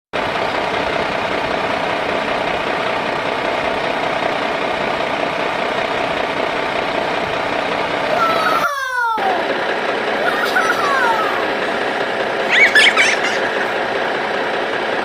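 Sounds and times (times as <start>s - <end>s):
motor running steadily: 0.2s - 15.0s.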